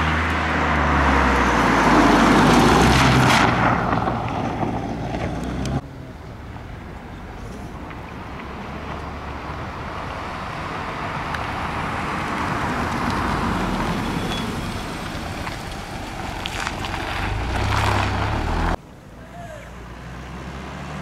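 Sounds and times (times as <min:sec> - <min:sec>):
car engine passing by: 0:00.0 - 0:18.8, 0:19.7 - 0:21.0
tyre noise: 0:01.6 - 0:21.0.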